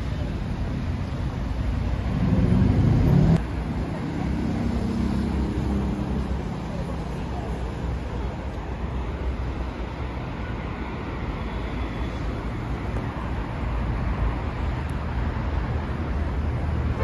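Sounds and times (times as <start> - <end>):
rumble of passing cars: 0.0 - 17.0.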